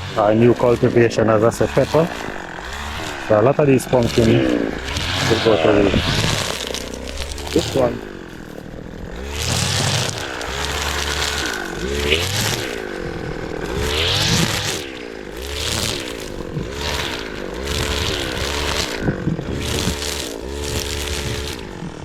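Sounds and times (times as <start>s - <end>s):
tractor engine working: 0.0s - 22.0s.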